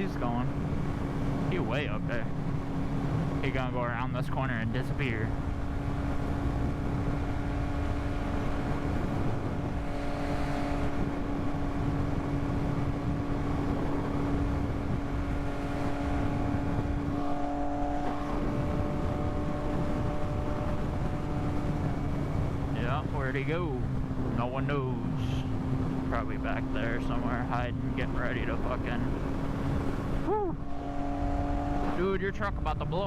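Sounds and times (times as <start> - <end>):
motorcycle engine running: 4.8 - 33.0
wind rushing: 5.2 - 32.0.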